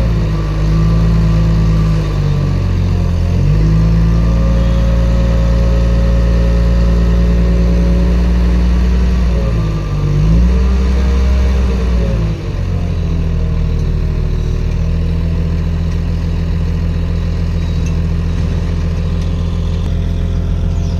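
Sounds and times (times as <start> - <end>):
engine running: 0.0 - 20.9.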